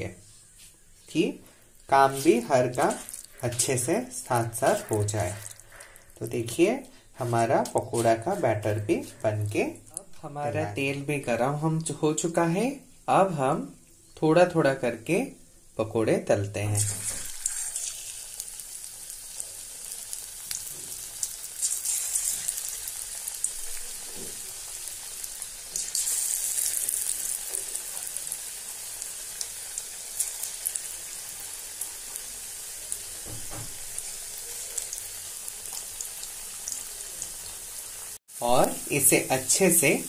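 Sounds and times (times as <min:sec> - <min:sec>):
batter sizzling in hot oil: 0:00.2 - 0:40.0.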